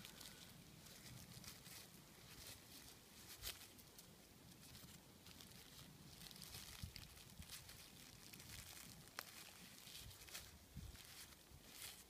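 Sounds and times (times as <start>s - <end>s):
plastic wrap crackling: 0.0s - 12.0s.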